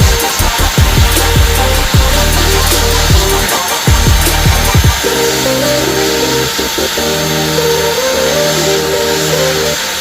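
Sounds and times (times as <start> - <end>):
air duster motor whine and hiss: 0.0 - 10.0
background music: 0.0 - 10.0.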